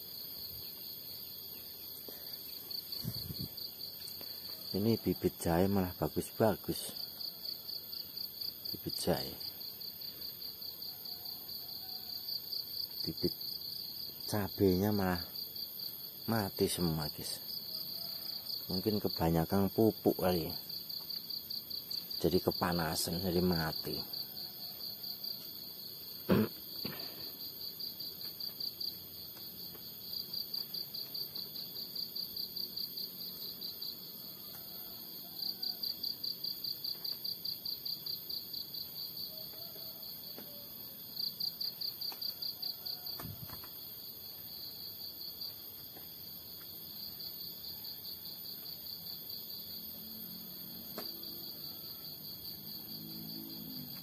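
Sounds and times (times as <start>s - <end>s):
insects chirping in pulses: 0.0s - 54.0s.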